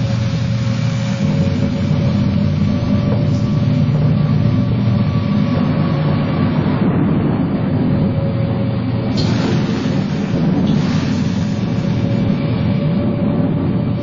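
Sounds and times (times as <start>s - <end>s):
faint steady hum: 0.0s - 14.0s
low mechanical rumble: 0.0s - 14.0s.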